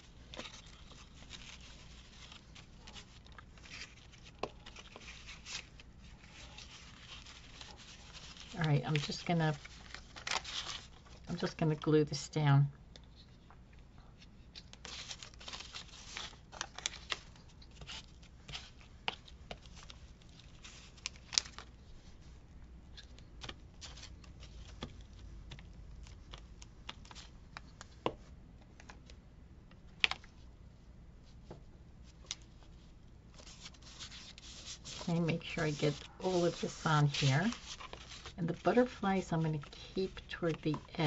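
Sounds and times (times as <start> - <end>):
paper rustling and crinkling: 0.0 - 11.8, 14.2 - 28.2, 31.4 - 41.0.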